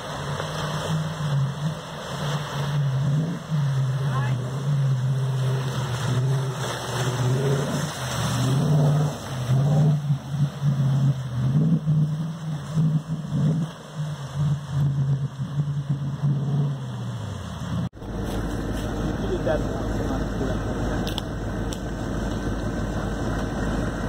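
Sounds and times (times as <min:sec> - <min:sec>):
car engine driving through mud: 0:00.0 - 0:24.0
water splashing: 0:00.0 - 0:24.0.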